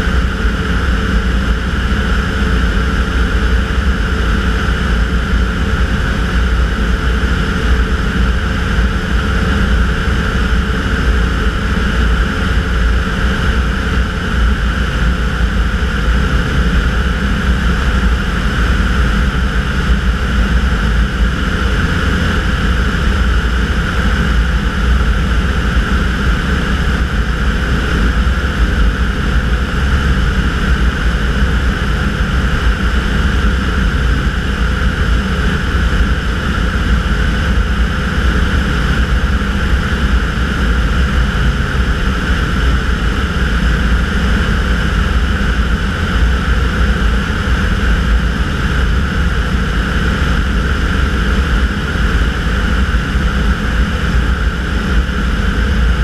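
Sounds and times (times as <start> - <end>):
microlight engine and propeller drone: 0.0 - 56.0.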